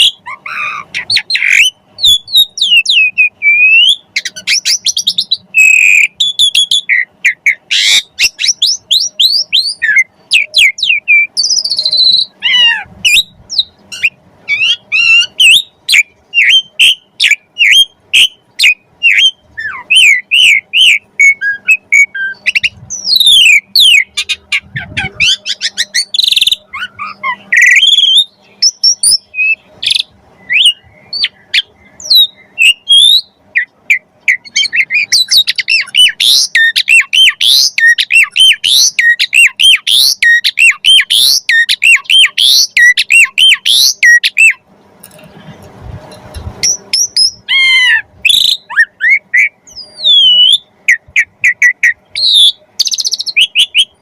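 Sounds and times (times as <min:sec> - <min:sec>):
starling singing: 0:00.0 - 0:44.6, 0:46.6 - 0:54.0.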